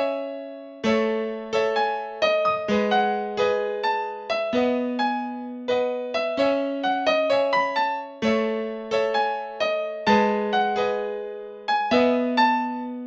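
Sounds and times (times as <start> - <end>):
electric piano melody: 0.0 - 13.0.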